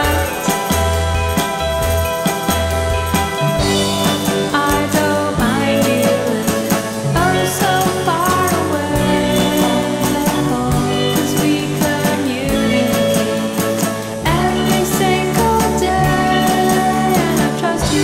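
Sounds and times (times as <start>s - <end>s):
song with drums bass and vocals: 0.0s - 18.0s.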